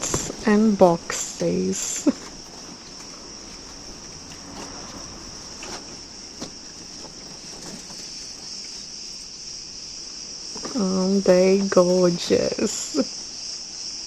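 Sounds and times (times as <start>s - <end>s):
insect chorus shrilling: 0.0s - 14.0s.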